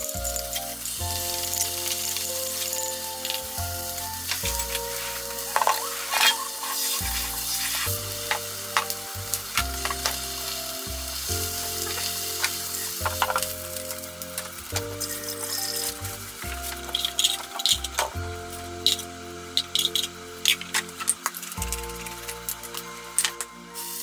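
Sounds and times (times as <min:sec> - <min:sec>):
background music: 0:00.0 - 0:24.0
cabbage sizzling in frying pan: 0:00.0 - 0:24.0.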